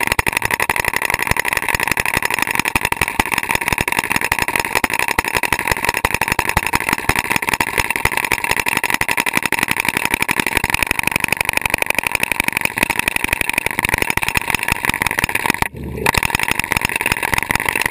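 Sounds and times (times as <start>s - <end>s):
hydraulic hammer pounding rock underwater: 0.0s - 17.9s.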